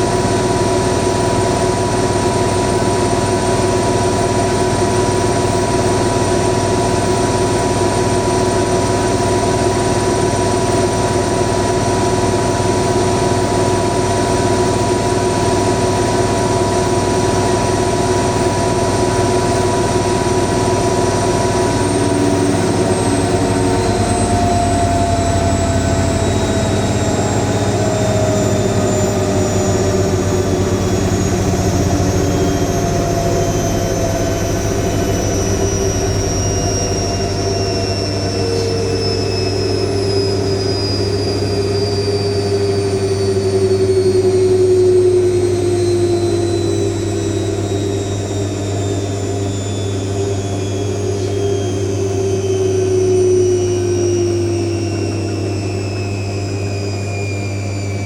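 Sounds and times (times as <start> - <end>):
washing machine spin whine: 0.0 - 58.0.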